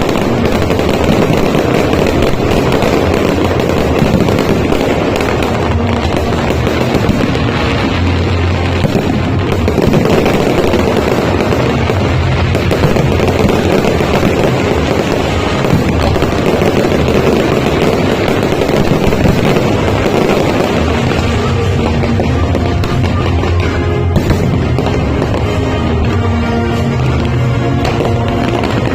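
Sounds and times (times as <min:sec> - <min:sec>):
fireworks crackling and bursting: 0:00.0 - 0:28.9
music: 0:00.0 - 0:28.9.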